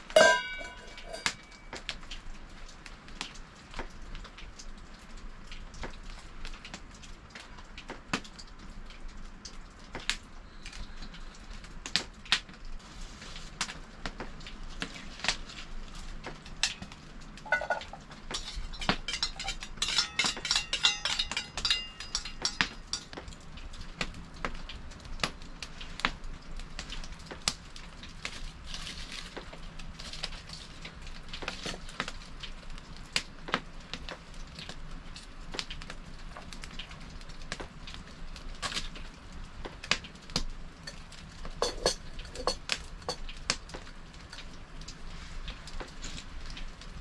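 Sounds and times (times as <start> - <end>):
low steady hiss: 0.0 - 47.0
wood fire crackling and popping: 0.0 - 47.0.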